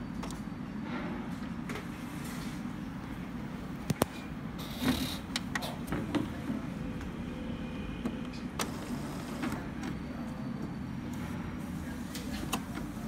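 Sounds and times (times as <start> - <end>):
printer mechanical whir: 0.0 - 13.0.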